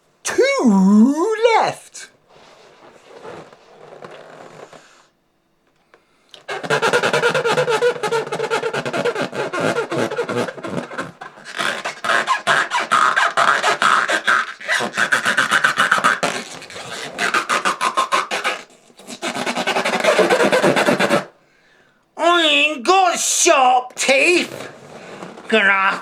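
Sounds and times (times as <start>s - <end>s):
balloon squeaking when rubbed: 0.3s - 5.0s, 6.4s - 21.4s, 24.0s - 26.0s.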